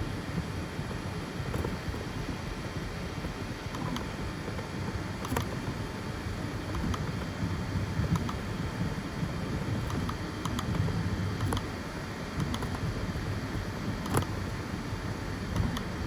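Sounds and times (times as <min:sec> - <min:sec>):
three-d printer whirring: 0:01.6 - 0:16.0.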